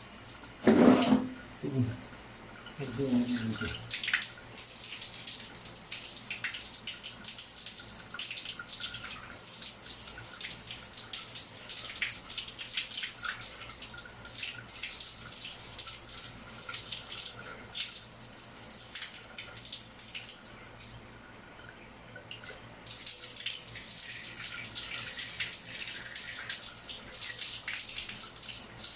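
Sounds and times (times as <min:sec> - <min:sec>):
shower water running: 0:00.0 - 0:28.9.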